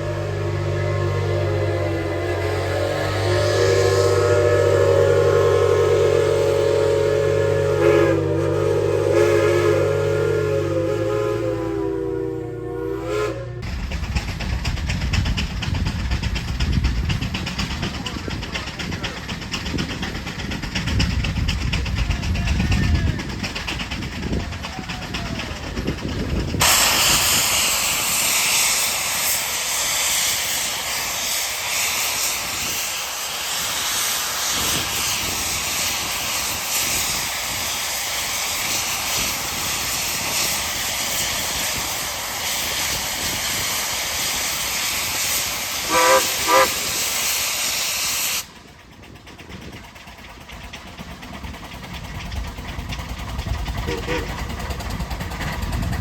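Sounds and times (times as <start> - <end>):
loud hiss of escaping steam: 0.0 - 12.2, 12.8 - 49.1
low engine rumble: 0.0 - 47.7, 48.4 - 56.0.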